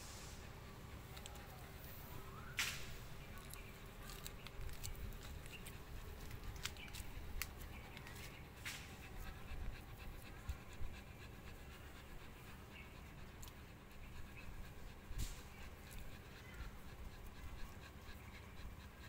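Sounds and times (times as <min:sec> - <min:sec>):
dog panting softly: 0:00.0 - 0:19.0.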